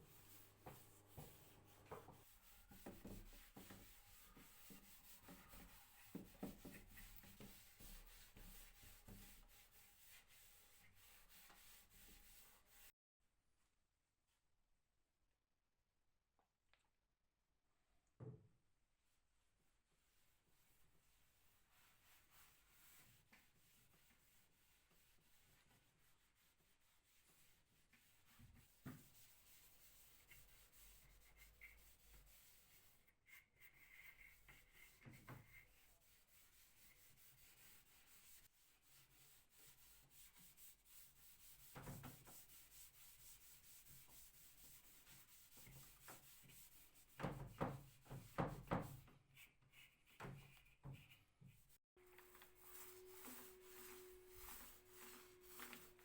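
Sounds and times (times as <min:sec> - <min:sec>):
faint rubbing on wood: 0:00.0 - 0:12.9, 0:20.1 - 0:56.0.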